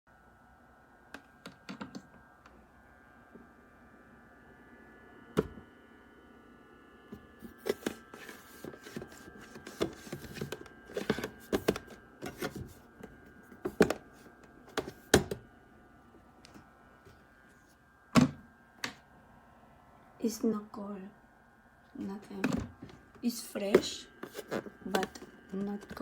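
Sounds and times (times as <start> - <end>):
faint high whine: 0.1 - 26.0.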